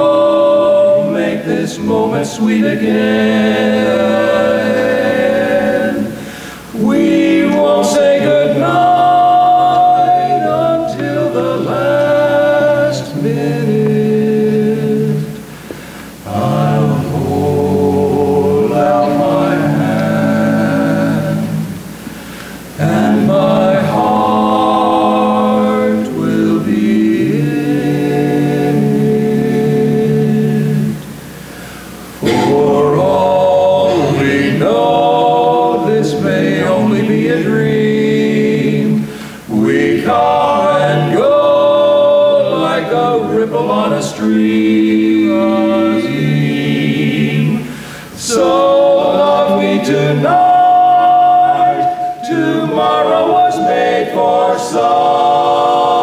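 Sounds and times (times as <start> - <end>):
men singing in harmony: 0.0 - 56.0.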